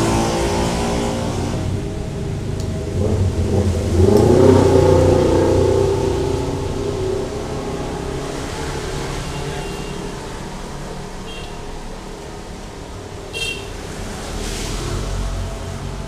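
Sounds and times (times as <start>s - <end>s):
traffic background noise: 0.0s - 16.0s
vehicle engine passing: 0.0s - 16.0s.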